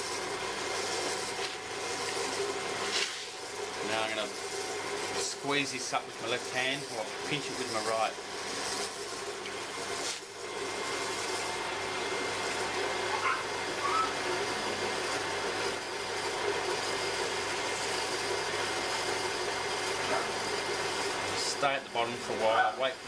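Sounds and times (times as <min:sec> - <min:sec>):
potter's wheel humming: 0:00.0 - 0:23.0.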